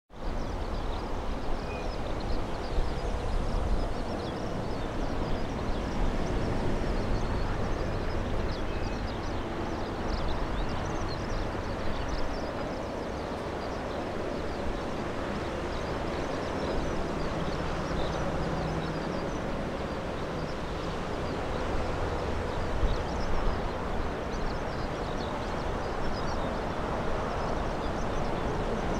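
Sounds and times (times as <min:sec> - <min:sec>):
wind on microphone: 0:00.2 - 0:28.9.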